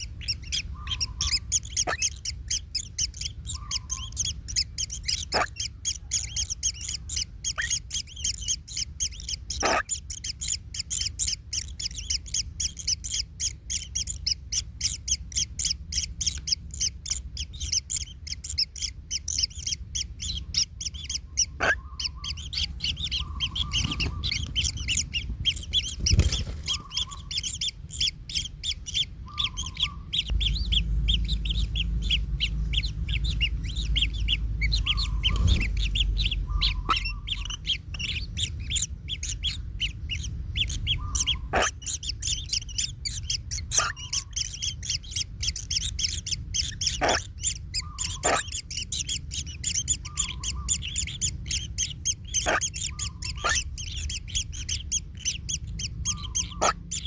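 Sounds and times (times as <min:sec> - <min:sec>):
lower bird call: 0:00.0 - 0:57.0
nestlings high-pitched chirps: 0:00.0 - 0:57.0.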